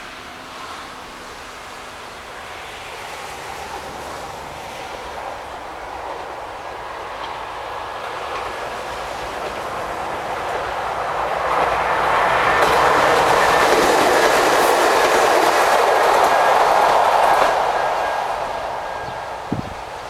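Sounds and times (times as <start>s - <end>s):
train passing: 0.0s - 20.0s.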